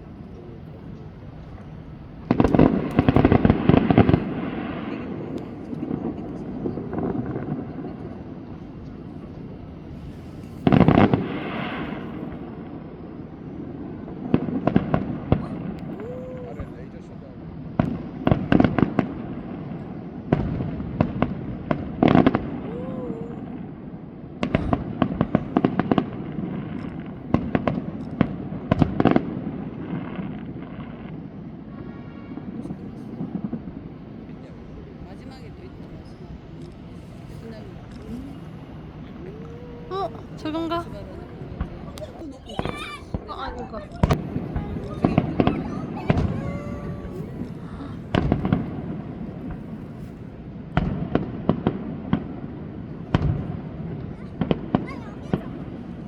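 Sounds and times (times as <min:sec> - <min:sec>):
fireworks cracks and bangs: 0:00.0 - 0:56.0.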